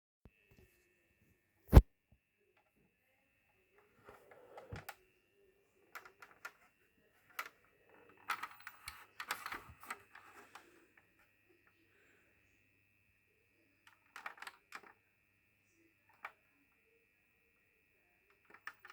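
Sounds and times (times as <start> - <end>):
decoder whirring hum: 3.5 - 18.9.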